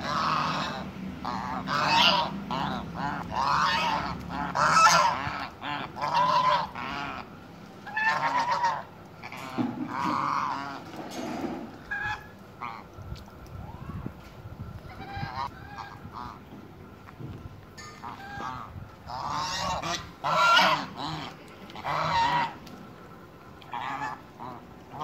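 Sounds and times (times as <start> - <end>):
geese honking: 0.0 - 13.0, 14.8 - 17.0, 17.7 - 25.0.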